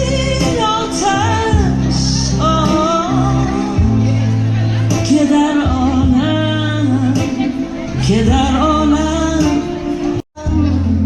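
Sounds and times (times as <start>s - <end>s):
held bass notes: 0.0s - 11.0s
person singing: 0.0s - 11.0s.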